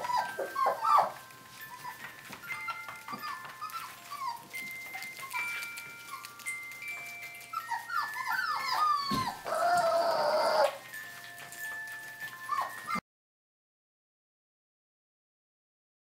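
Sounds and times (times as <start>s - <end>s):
music-box melody: 0.0s - 13.0s
puppies whimpering: 0.0s - 13.0s.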